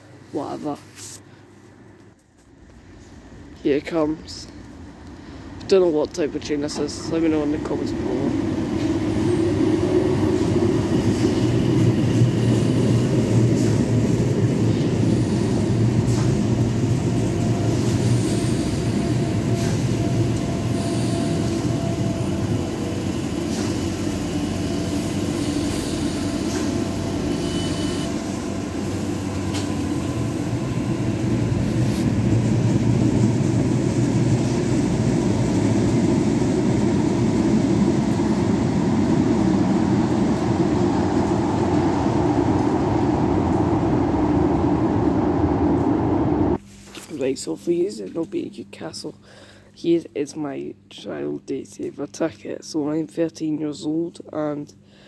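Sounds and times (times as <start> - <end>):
electric train rumbling: 1.7 - 46.6.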